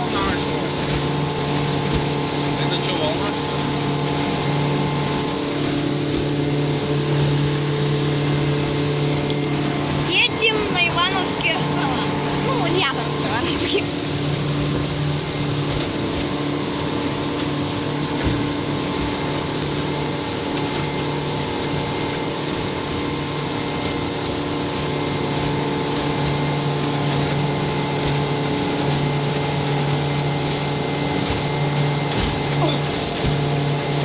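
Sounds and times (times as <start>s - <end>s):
motorboat engine droning: 0.0s - 34.0s
rushing water: 0.0s - 34.0s
wind: 0.0s - 34.0s.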